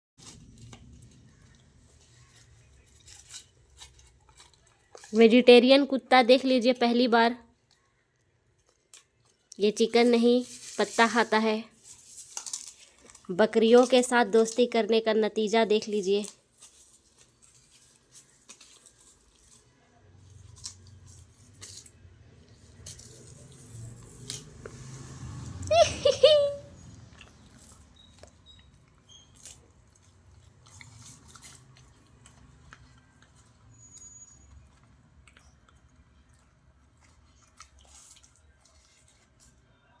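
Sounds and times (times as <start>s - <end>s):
dog chewing and tearing leaves: 0.2s - 6.6s, 8.5s - 15.1s, 15.7s - 25.9s, 26.5s - 40.0s.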